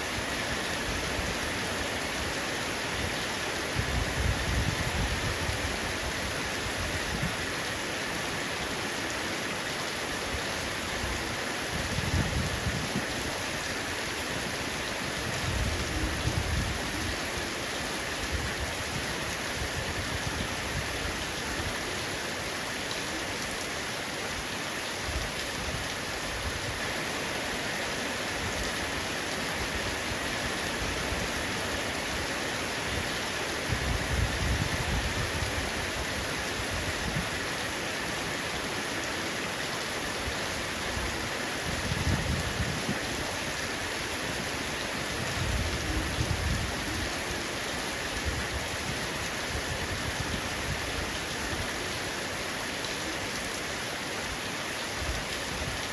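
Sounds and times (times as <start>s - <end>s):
heavy rain on a roof: 0.0s - 55.9s.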